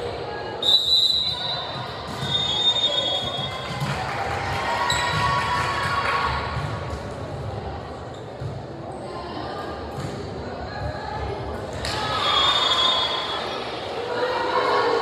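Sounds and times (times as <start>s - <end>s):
crowd voices: 0.0s - 15.0s.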